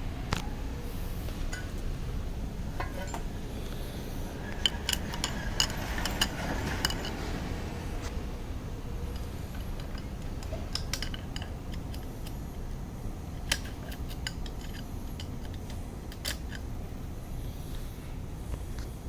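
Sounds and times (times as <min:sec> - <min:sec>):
steady low rumble: 0:00.0 - 0:19.0
hand tools clinking: 0:00.8 - 0:17.0.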